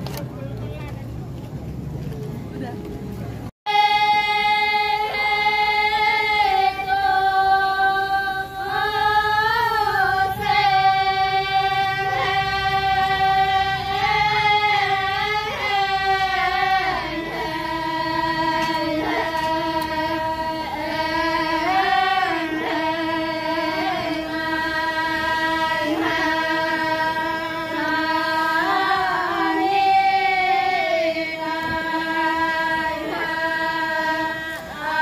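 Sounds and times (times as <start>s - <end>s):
women singing a chant unaccompanied: 3.7s - 35.0s.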